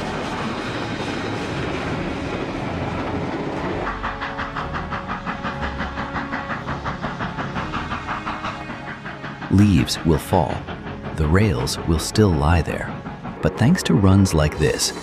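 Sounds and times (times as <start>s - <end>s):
rush of steam: 0.0s - 15.0s
steam locomotive running: 0.0s - 15.0s.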